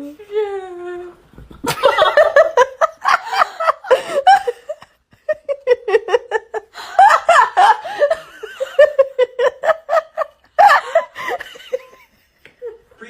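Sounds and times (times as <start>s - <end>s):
person laughing hard: 1.6s - 12.8s.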